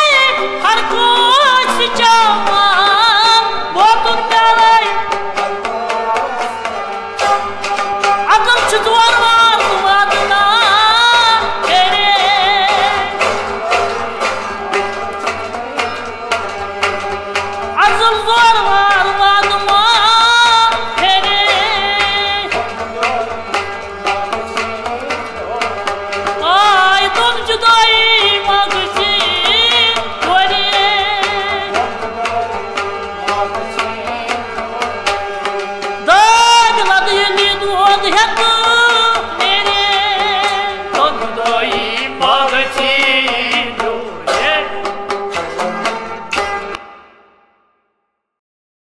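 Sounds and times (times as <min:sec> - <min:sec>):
men singing folk song: 0:00.0 - 0:46.3
string instruments and harmonium: 0:00.0 - 0:47.6.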